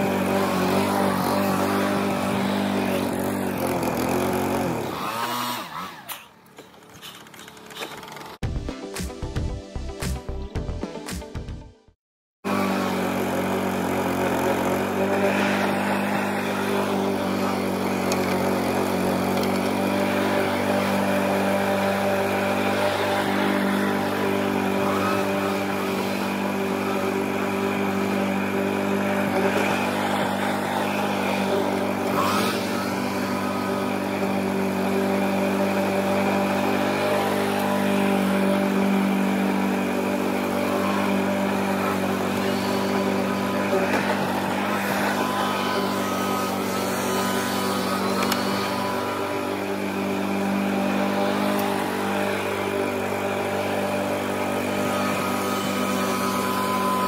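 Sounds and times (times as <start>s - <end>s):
lawn mower engine running: 0.0s - 8.6s, 12.4s - 57.0s.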